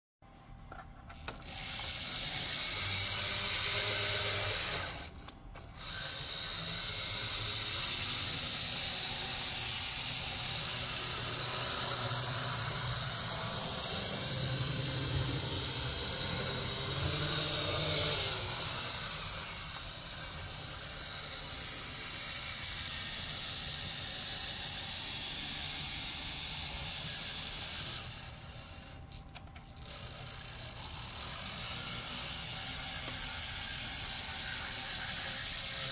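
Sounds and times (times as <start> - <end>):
model train motor whirring: 0.7 - 35.9.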